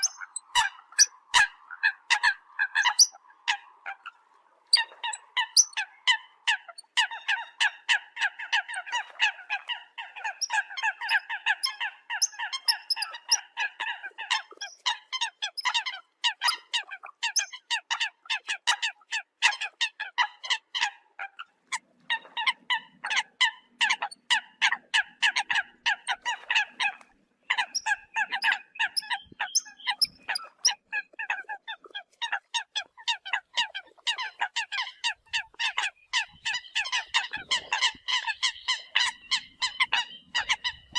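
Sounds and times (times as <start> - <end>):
coots calling: 0.0 - 21.4, 22.2 - 40.9.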